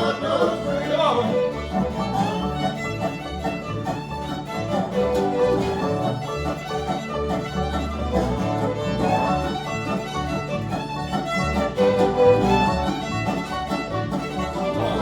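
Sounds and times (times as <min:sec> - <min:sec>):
bluegrass band playing: 0:00.0 - 0:15.0
fiddle melody: 0:00.0 - 0:15.0.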